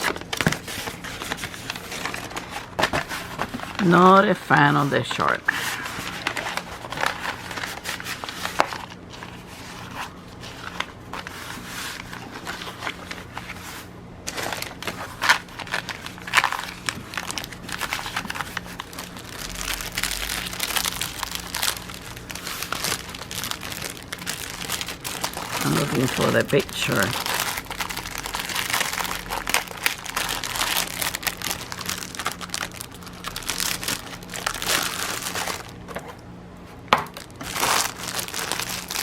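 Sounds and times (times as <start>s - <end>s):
packaging rustling and crinkling: 0.0s - 39.0s.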